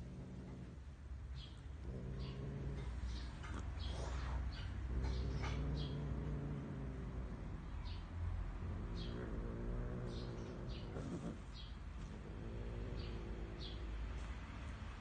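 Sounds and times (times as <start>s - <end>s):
cat growling: 0.0s - 0.9s, 1.5s - 14.2s
small birds chirping: 0.0s - 14.4s.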